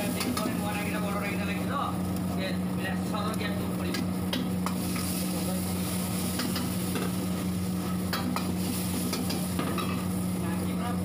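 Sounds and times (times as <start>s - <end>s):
steady low hum: 0.0s - 11.0s
vegetables sizzling in a wok: 0.0s - 11.0s.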